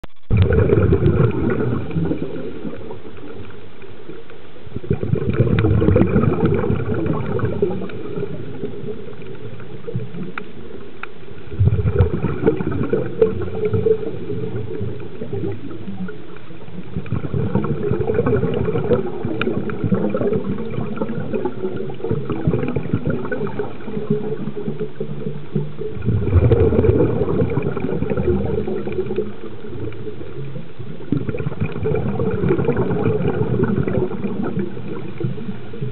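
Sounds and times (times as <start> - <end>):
muffled underwater water rush: 0.0 - 35.9
faint clicks: 1.4 - 26.0, 27.3 - 35.9.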